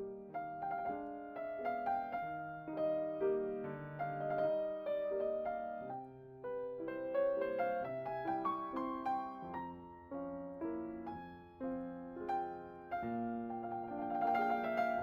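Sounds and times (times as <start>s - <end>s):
soft solo piano: 0.0s - 15.0s.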